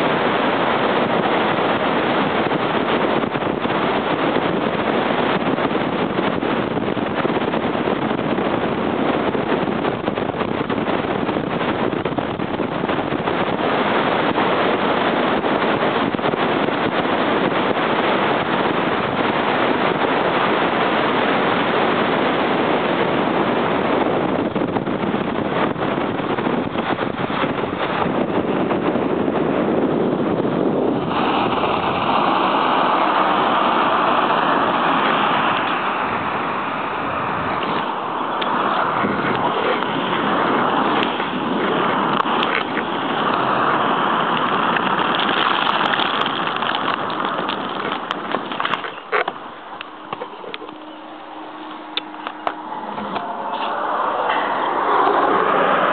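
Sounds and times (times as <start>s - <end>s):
skate wheels rolling on asphalt: 0.0s - 55.9s
wind buffeting microphone: 0.0s - 55.9s.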